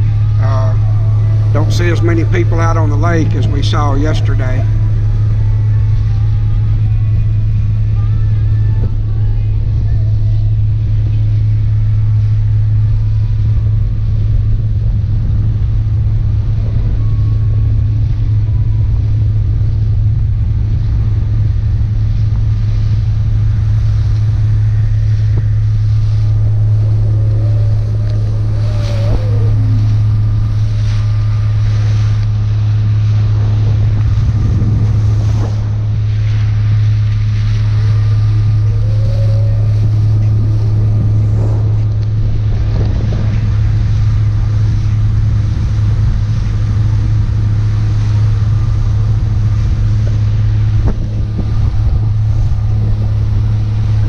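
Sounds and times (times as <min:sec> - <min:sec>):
motorboat engine hum: 0:00.0 - 0:54.0
water rushing along hull: 0:00.0 - 0:54.0
wind on microphone: 0:00.0 - 0:54.0.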